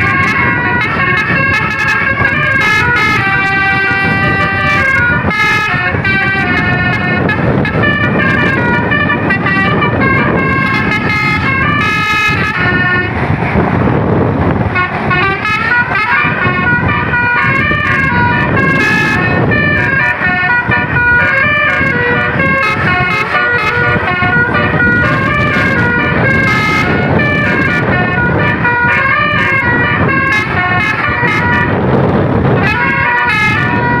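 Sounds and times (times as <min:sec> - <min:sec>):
musical bus horn playing tune: 0:00.0 - 0:13.4, 0:14.0 - 0:34.0
bus engine and road noise: 0:00.0 - 0:34.0.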